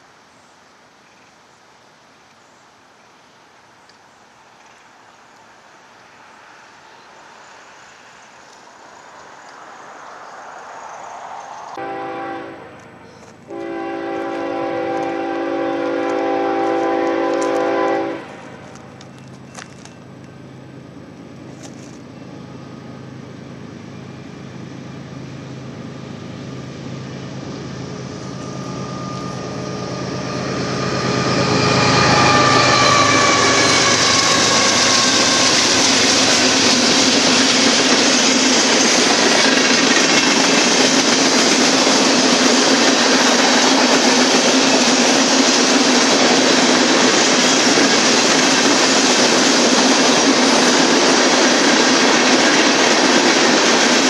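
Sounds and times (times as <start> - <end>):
diesel locomotive engine passing: 5.9 - 54.0
train cars rumbling on rails: 10.3 - 54.0.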